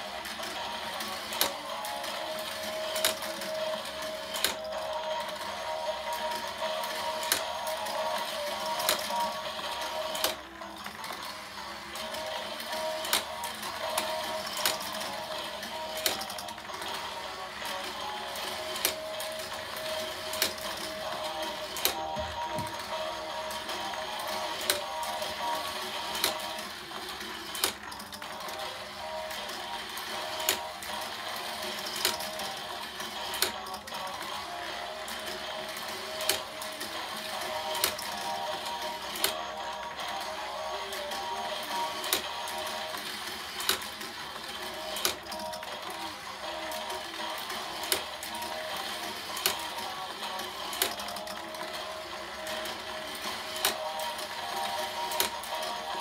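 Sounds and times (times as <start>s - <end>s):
toy motor whirring: 0.0s - 56.0s.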